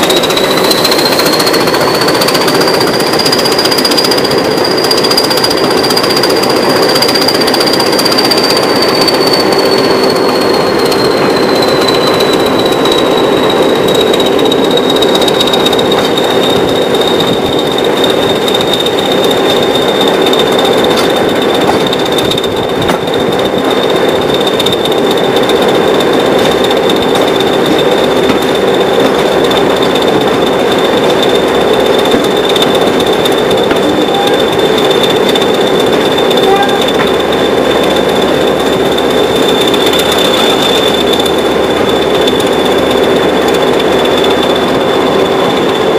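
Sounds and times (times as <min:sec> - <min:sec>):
turbocharger whistle: 0:00.0 - 0:25.4, 0:26.7 - 0:45.6
diesel locomotive engine clattering: 0:00.0 - 0:45.9.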